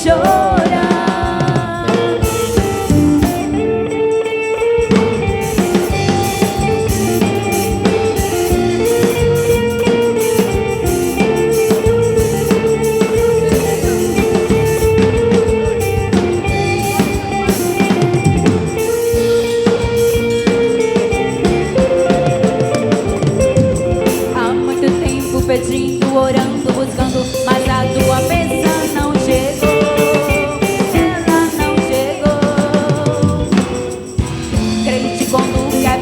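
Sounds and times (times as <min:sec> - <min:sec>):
band playing instrumental: 0:00.0 - 0:36.0
drum kit beat: 0:00.0 - 0:36.0.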